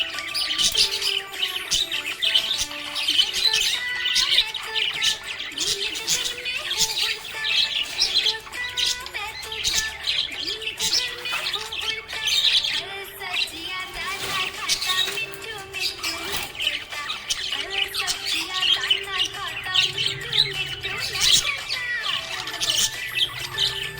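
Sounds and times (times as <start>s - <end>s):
budgerigars chirping: 0.0s - 23.9s.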